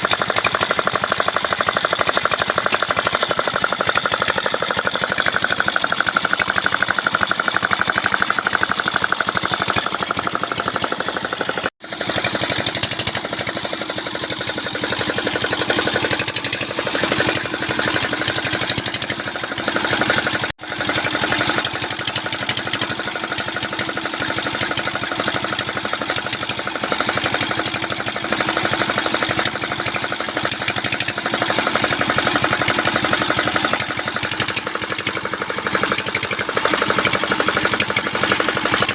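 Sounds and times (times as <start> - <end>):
small diesel engine knocking: 0.0 - 38.9.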